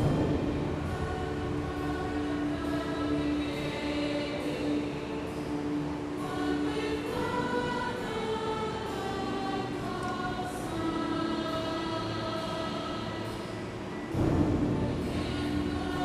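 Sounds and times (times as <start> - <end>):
choir singing slow hymn: 0.0 - 16.0.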